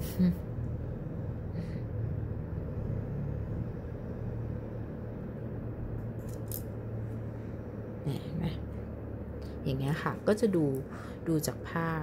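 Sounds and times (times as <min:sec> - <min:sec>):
low rumble: 0:00.4 - 0:12.0.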